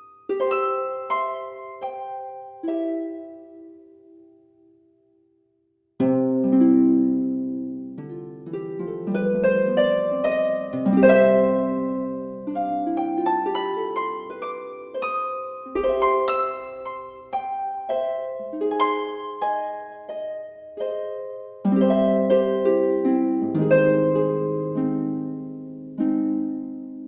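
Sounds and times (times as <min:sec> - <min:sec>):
harp-like plucked-string melody: 0:00.0 - 0:04.1, 0:06.0 - 0:27.0.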